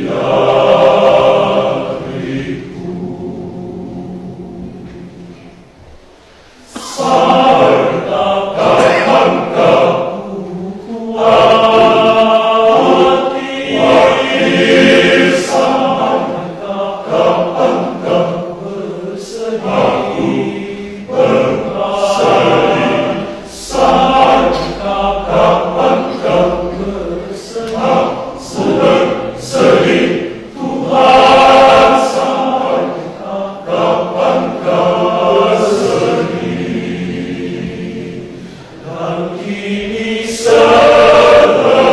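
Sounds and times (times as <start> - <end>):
men's choir singing: 0.0 - 5.8, 6.4 - 41.9.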